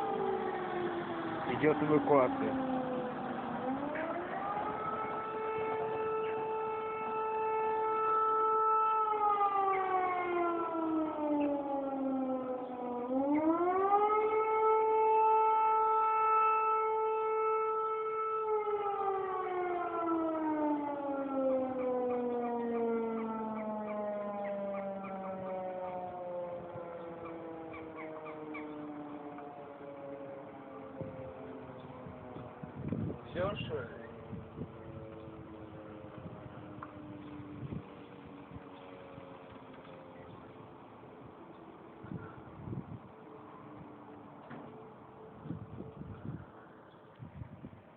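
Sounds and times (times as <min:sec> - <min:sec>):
warning siren wailing: 0:00.0 - 0:47.9.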